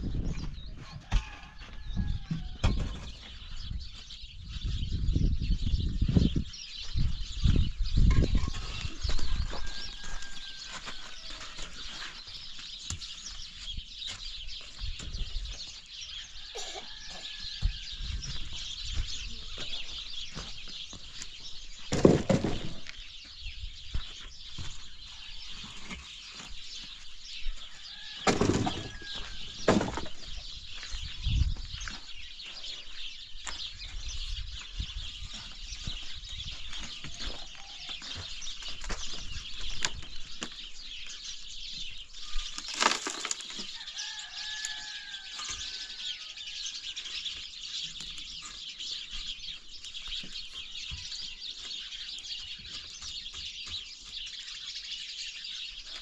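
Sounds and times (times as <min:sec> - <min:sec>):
birds: 0:00.0 - 0:56.0.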